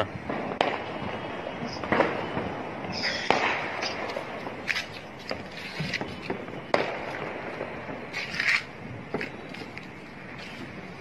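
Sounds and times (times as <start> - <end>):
fireworks cracks and bangs: 0.0 - 11.0
firework hiss: 0.3 - 11.0.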